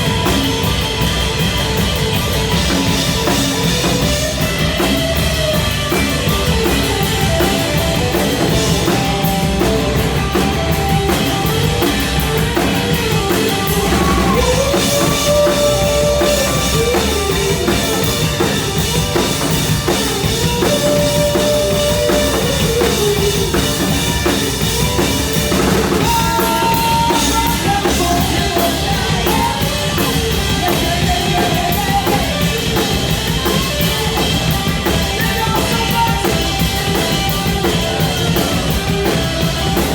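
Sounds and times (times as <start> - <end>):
lead guitar line: 0.0 - 39.9
rock band playing: 0.0 - 39.9.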